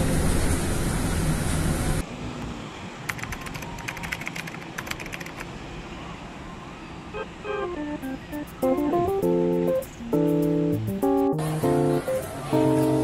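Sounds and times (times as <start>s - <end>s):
bus rumble from inside: 0.0s - 13.0s.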